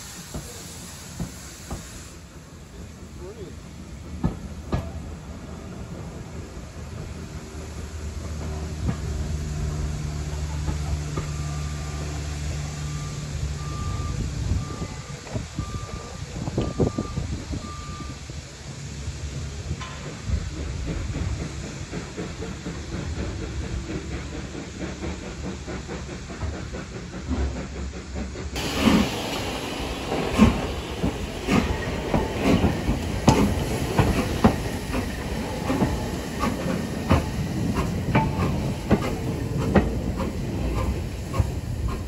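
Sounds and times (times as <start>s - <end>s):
steam hissing: 0.0s - 42.0s
steam locomotive rumble: 0.0s - 42.0s.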